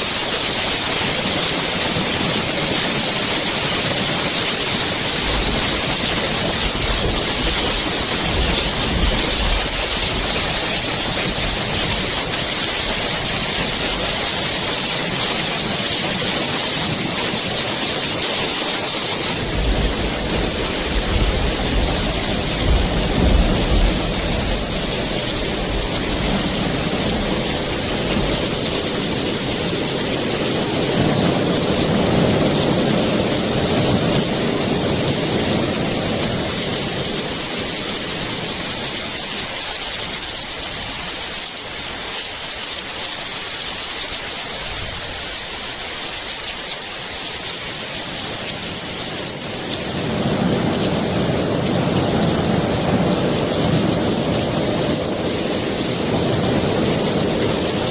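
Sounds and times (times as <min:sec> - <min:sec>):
thunder rumbling: 0:00.0 - 0:41.5, 0:48.4 - 0:57.9
heavy rain falling: 0:00.0 - 0:57.9.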